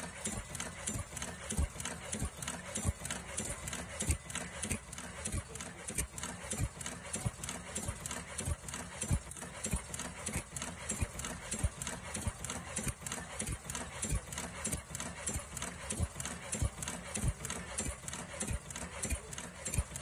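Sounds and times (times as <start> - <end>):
welding machine clattering: 0.0 - 20.0.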